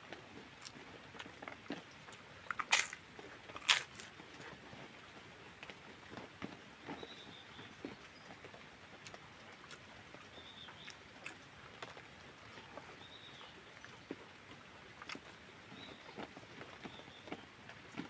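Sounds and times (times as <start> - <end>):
chewing and lip-smacking: 0.1 - 4.6, 5.6 - 18.0.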